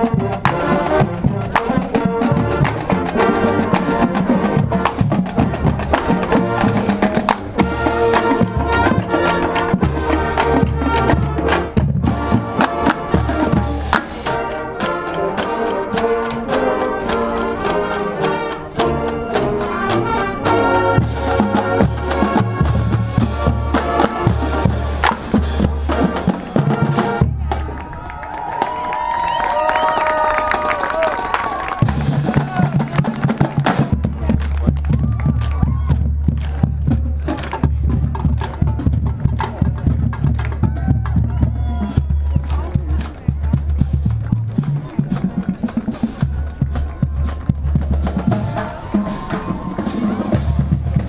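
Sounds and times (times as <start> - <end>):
brass instruments: 0.0 - 51.0
drumline: 0.0 - 51.0.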